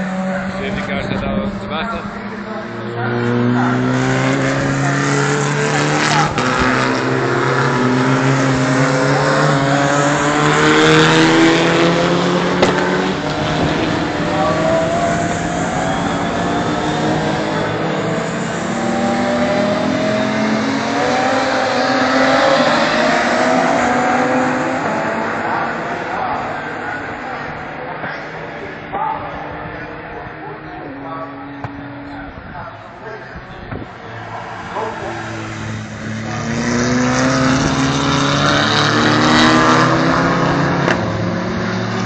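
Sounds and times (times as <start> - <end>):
racing car engines accelerating: 0.0 - 42.0.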